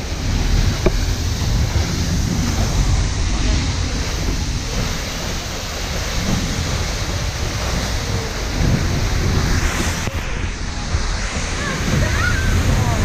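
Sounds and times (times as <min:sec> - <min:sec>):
waterfall roaring: 0:00.0 - 0:13.0
wind buffeting microphone: 0:00.0 - 0:13.0.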